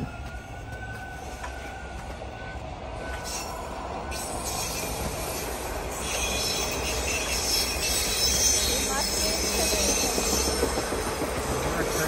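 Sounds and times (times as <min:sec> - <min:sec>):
high wheel squeal: 0:00.0 - 0:10.8
train rolling rumble: 0:00.0 - 0:12.0.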